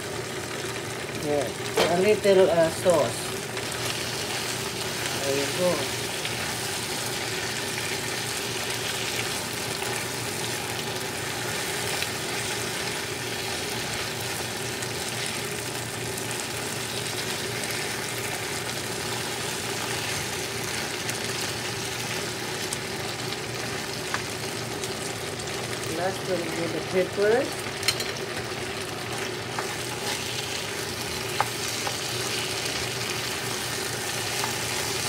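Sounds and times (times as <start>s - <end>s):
food sizzling in a frying pan: 0.0s - 35.0s.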